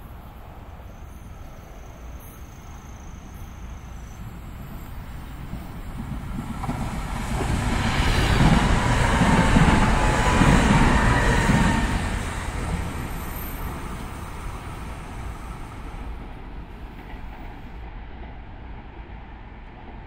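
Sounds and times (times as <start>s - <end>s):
train passing rumble: 0.0s - 20.0s.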